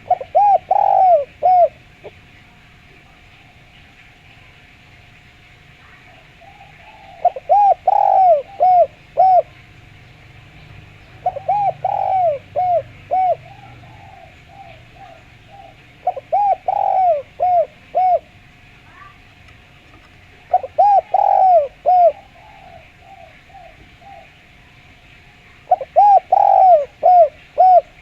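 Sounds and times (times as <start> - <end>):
dove cooing: 0.0 - 3.8, 5.8 - 19.3, 19.9 - 28.0
faint steady hiss: 0.0 - 28.0.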